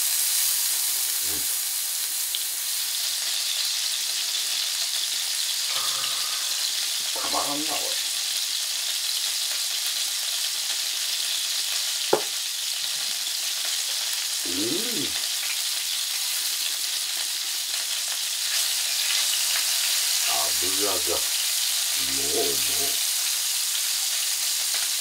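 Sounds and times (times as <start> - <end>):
meat sizzling on grill pan: 0.0 - 25.0.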